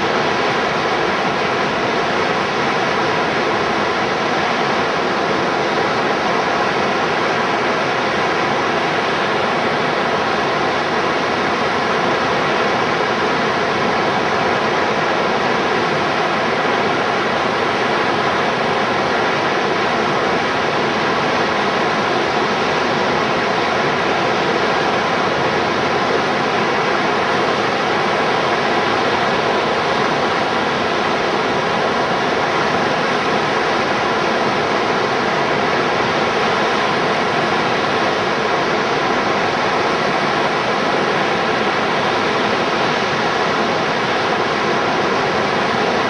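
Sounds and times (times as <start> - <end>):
river whitewater rushing: 0.0 - 46.0.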